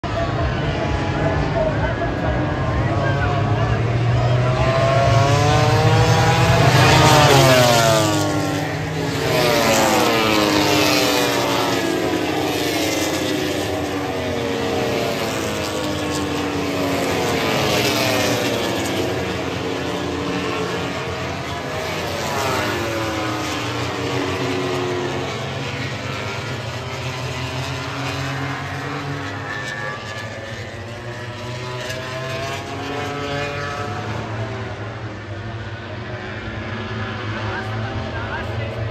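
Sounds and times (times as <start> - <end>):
racing motorcycles passing: 0.0 - 38.9.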